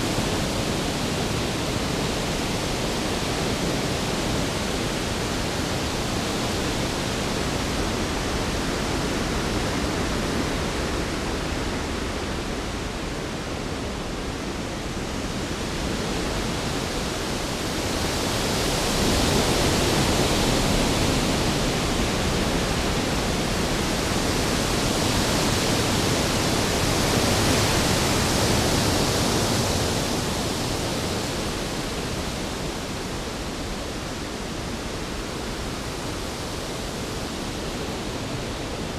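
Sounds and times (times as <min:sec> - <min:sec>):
wind and rain rushing: 0:00.0 - 0:38.9.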